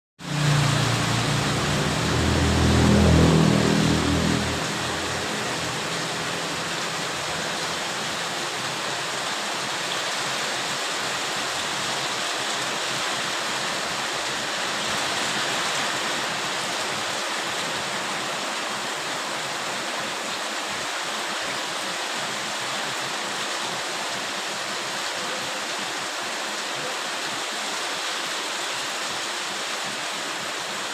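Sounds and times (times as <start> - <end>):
heavy rain pouring: 0.2 - 30.9.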